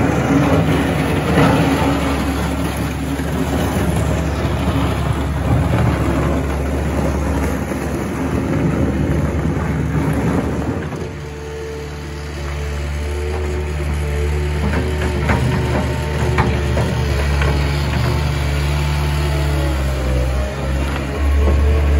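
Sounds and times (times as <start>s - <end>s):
diesel loader engine running: 0.0s - 21.9s.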